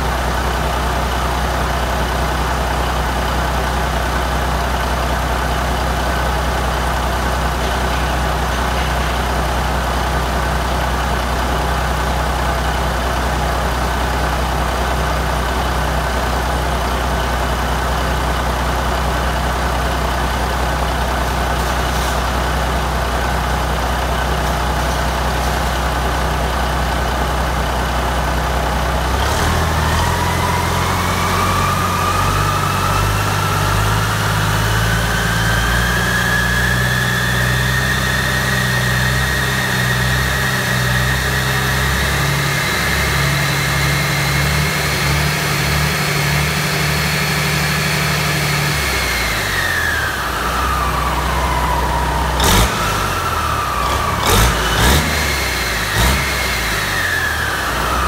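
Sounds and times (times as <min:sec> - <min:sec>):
diesel engine revving: 0:00.0 - 0:58.0
turbocharger whine: 0:00.0 - 0:58.0.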